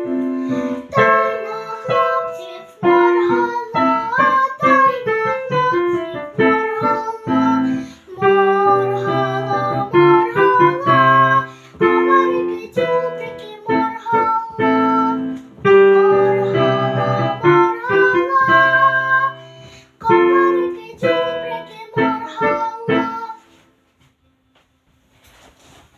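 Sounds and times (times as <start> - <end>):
lively piano playing: 0.0 - 23.4.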